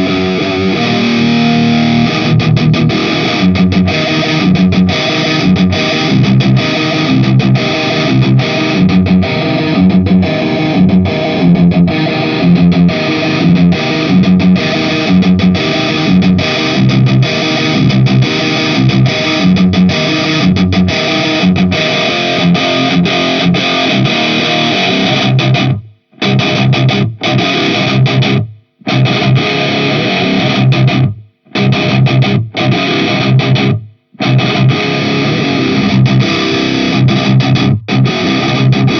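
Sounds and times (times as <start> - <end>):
distorted electric guitar riff: 0.0 - 38.9.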